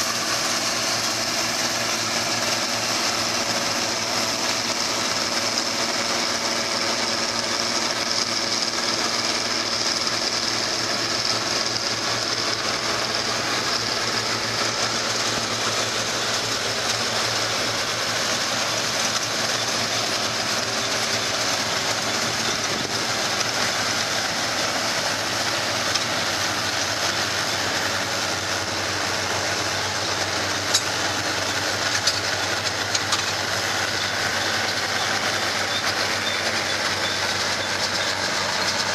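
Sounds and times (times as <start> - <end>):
tractor and baler drone: 0.0 - 38.9.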